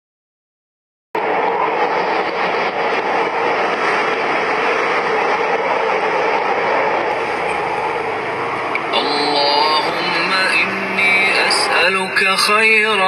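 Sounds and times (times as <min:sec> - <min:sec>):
strong wind rushing: 0:01.2 - 0:13.0.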